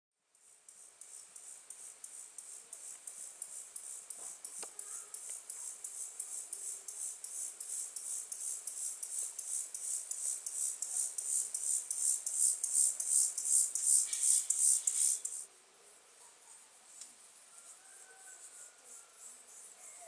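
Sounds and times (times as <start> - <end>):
cricket chirping: 0.3 - 20.0.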